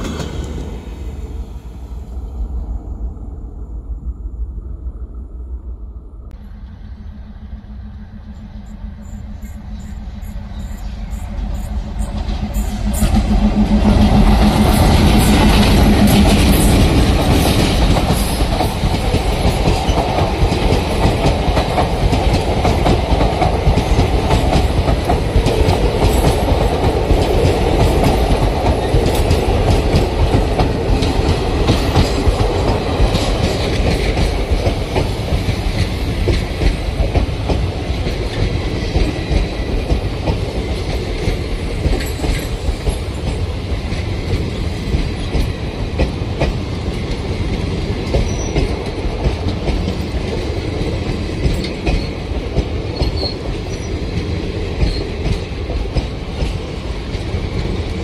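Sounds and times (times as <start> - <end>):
diesel locomotive engines: 0.0 - 58.0
train wheels clattering over rail joints: 10.5 - 58.0.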